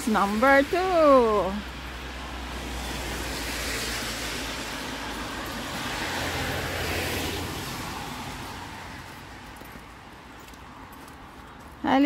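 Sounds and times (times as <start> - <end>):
vehicle passing by: 0.0 - 11.7.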